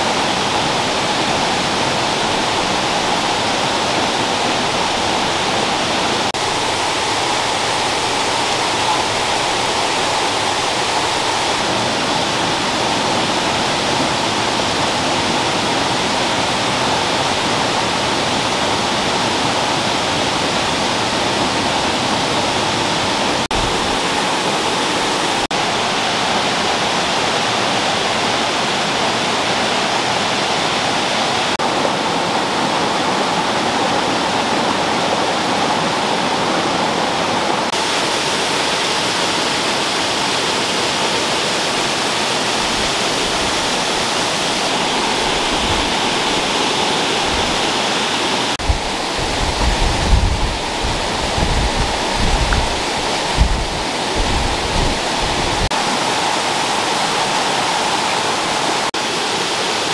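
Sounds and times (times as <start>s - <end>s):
mountain stream rushing over boulders: 0.0s - 59.9s.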